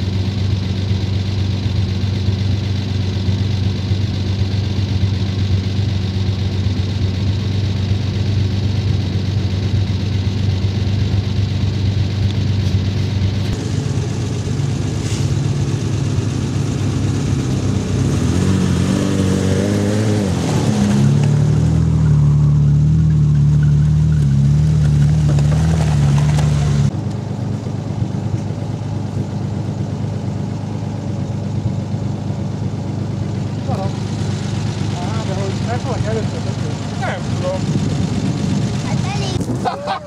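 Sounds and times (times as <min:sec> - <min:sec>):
off-road engine revving: 0:00.0 - 0:27.2, 0:27.8 - 0:40.0.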